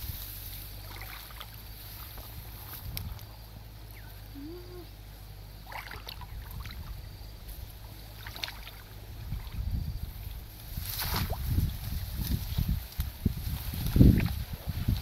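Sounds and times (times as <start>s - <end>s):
muddy water sloshing and splashing: 0.0s - 3.4s, 5.5s - 15.0s
steady low rumble: 0.0s - 15.0s.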